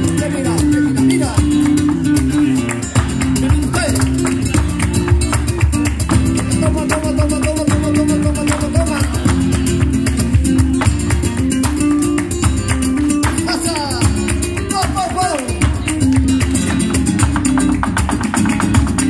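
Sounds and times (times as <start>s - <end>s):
cajon drum: 0.0s - 19.0s
rhythmic handclaps: 0.0s - 19.0s
spanish guitar: 0.0s - 19.0s.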